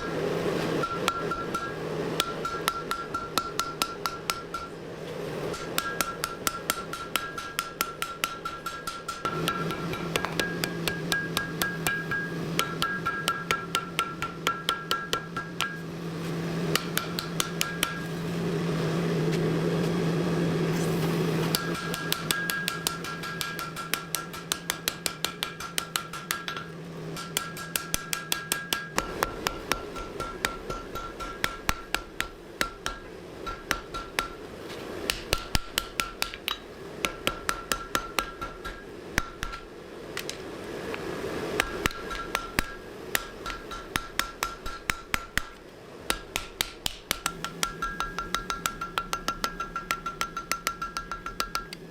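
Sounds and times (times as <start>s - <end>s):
steady hum: 0.0s - 51.9s
hammer striking steel on anvil: 0.8s - 4.8s, 5.5s - 15.9s, 16.7s - 18.1s, 21.5s - 34.4s, 35.0s - 39.7s, 41.6s - 51.9s.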